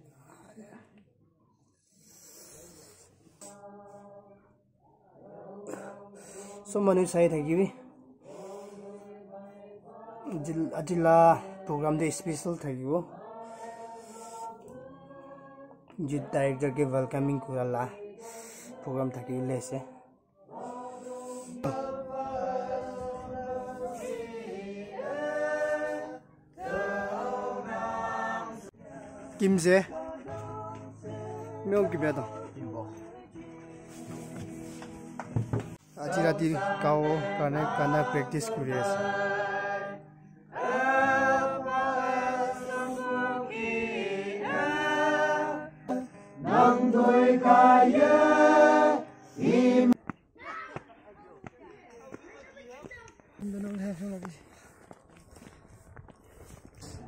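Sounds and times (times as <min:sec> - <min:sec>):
choir singing long notes: 0:03.2 - 0:35.0, 0:35.9 - 0:50.0.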